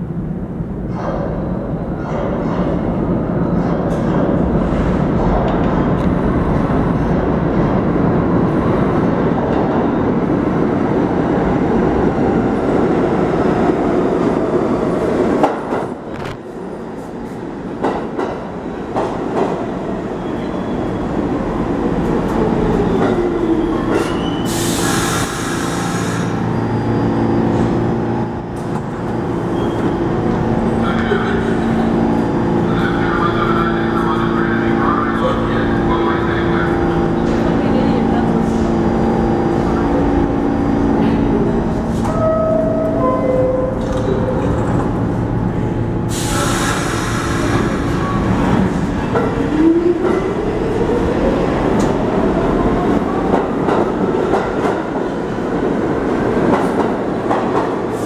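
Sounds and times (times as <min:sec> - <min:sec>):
steady train hum: 0:00.0 - 0:58.0.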